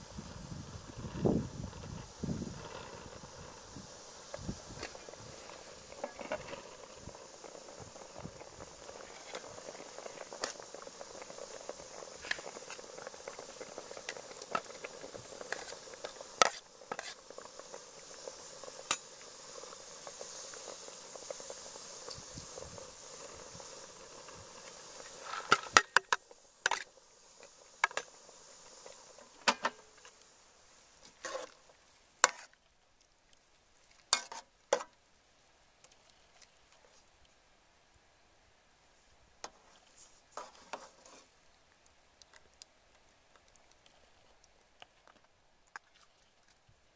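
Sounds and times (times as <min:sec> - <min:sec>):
broth boiling in a pot: 0:00.0 - 0:46.9.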